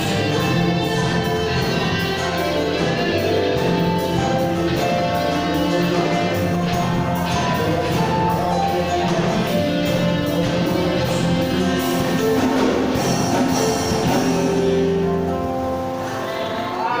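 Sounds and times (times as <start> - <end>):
steady cymbal beat: 0.0 - 16.4
live band playing: 0.0 - 17.0.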